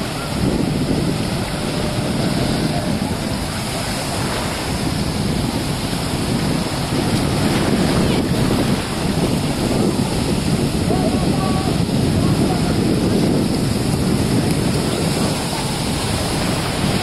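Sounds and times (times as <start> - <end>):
waves washing on beach: 0.0 - 17.0
wind buffeting microphone: 0.0 - 17.0.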